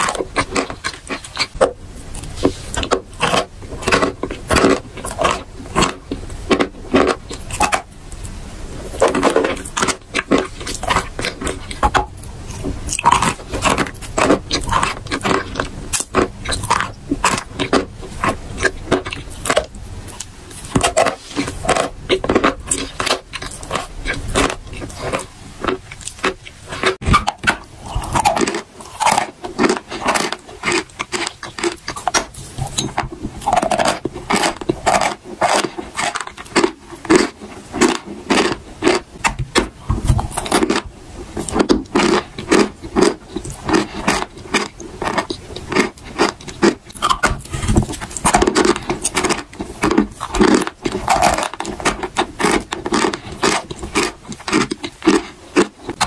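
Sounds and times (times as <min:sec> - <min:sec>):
chalk crunching being chewed: 0:00.0 - 0:56.0.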